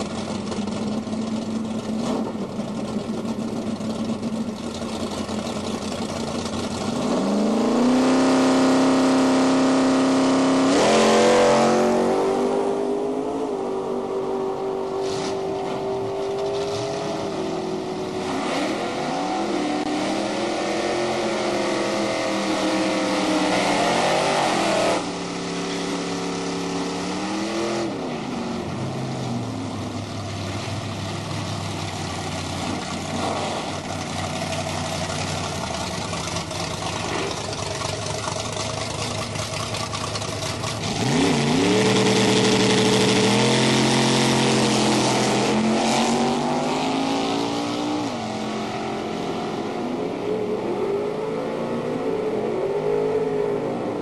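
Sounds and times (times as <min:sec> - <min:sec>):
drag racing car engines revving: 0:00.0 - 0:54.0.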